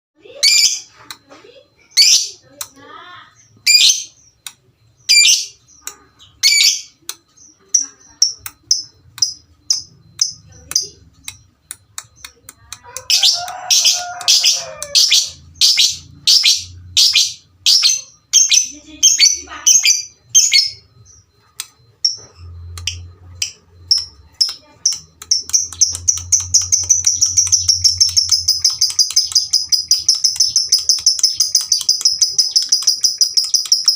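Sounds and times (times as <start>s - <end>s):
lovebird chirping: 0.2s - 33.9s
lovebird chatter: 1.8s - 33.9s
lovebird trilling: 5.0s - 21.3s, 22.0s - 33.9s.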